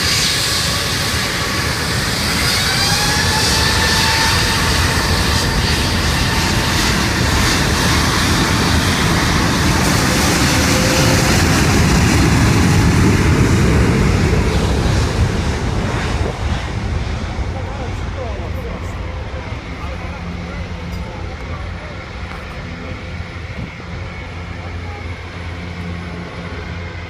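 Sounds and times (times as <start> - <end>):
aircraft engines rumbling: 0.0 - 27.0
jet engine whine: 0.0 - 27.0.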